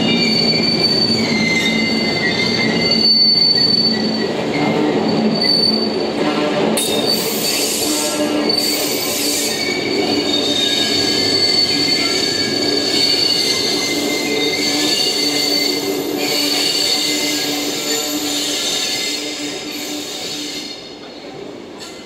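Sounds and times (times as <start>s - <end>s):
steel wheels squealing on rails: 0.0s - 6.2s, 6.8s - 22.0s.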